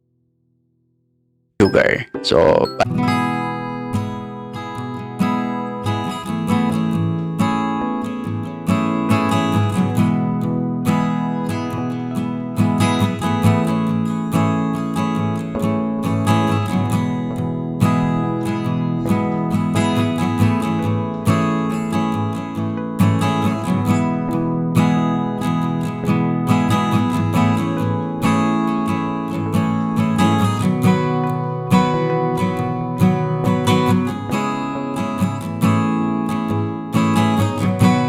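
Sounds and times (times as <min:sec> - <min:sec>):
acoustic guitar strumming: 0:01.6 - 0:38.0.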